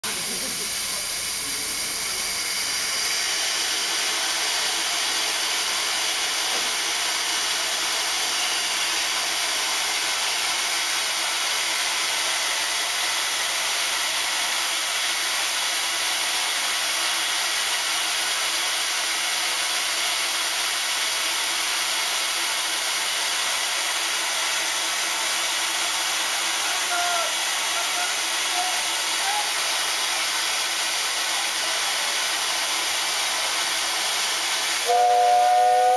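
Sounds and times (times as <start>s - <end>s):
steam locomotive hissing: 0.0s - 35.9s.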